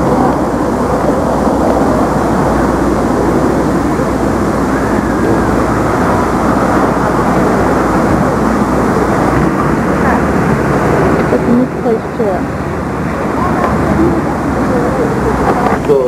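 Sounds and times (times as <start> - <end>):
loud rushing roar outdoors: 0.0 - 16.0.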